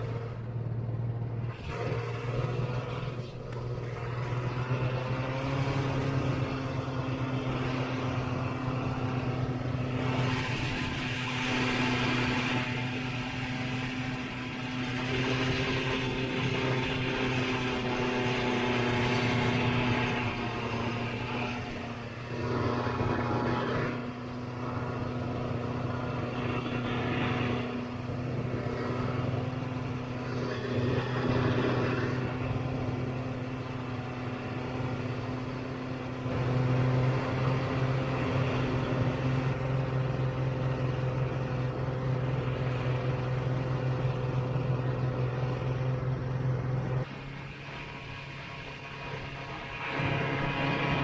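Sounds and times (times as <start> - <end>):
snowmobile engine running: 0.0 - 51.0.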